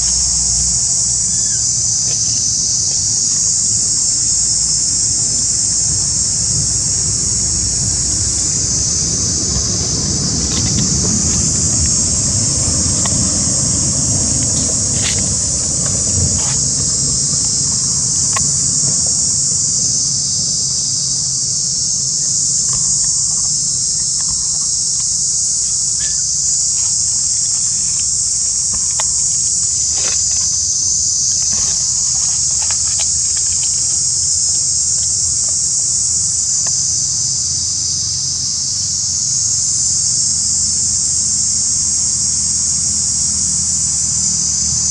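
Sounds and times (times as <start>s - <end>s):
insect chorus droning: 0.0s - 44.9s.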